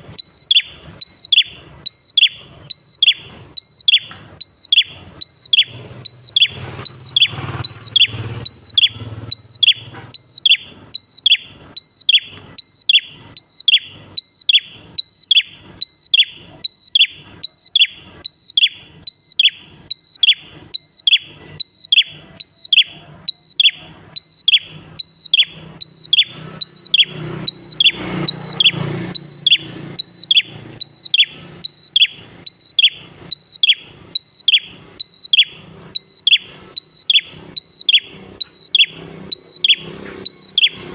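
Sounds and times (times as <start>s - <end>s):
bird calling high notes: 0.0s - 40.9s.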